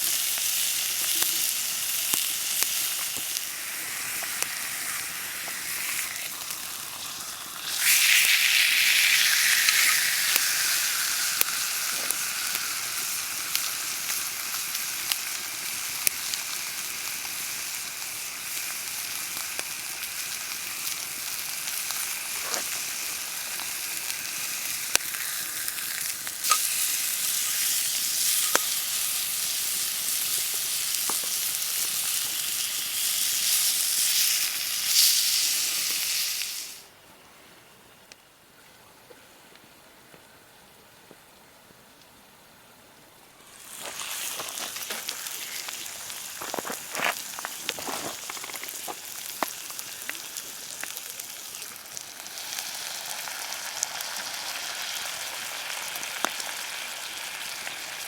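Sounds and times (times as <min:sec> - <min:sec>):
food sizzling in a pan: 0:00.0 - 0:36.9, 0:43.4 - 0:58.0.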